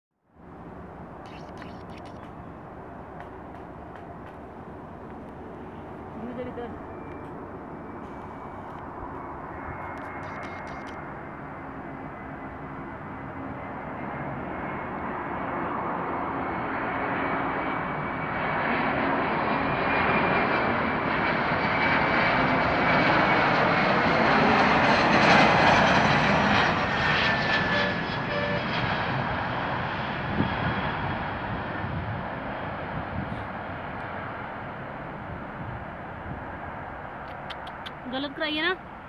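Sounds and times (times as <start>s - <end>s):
high jet engine whine: 0.3s - 39.0s
jet airliner engines roaring: 0.4s - 39.0s.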